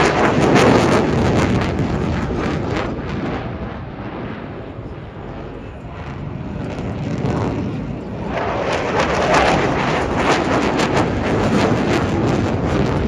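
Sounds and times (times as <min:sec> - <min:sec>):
jet aircraft passing low: 0:00.0 - 0:13.0.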